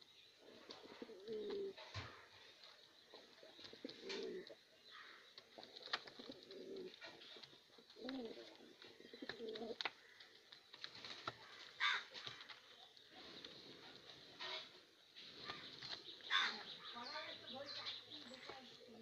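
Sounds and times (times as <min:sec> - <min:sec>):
pigeons cooing: 0:00.4 - 0:19.0.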